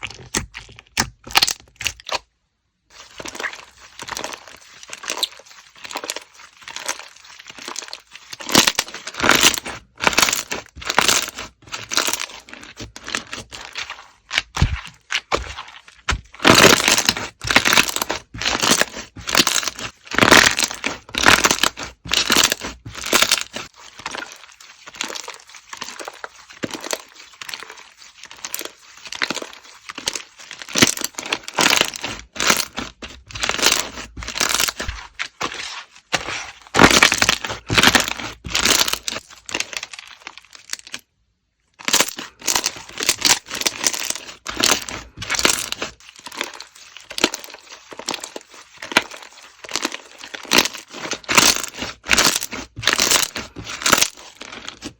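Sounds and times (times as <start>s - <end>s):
slime crackling and popping: 0.0s - 2.3s, 3.0s - 41.1s, 41.8s - 54.9s.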